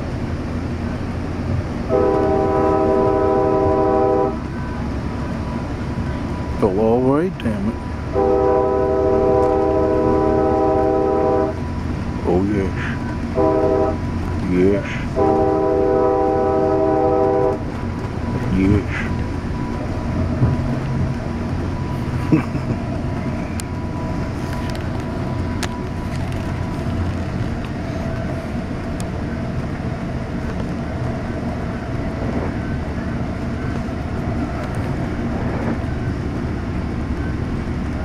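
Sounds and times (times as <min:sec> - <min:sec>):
train rumble from inside coach: 0:00.0 - 0:38.0.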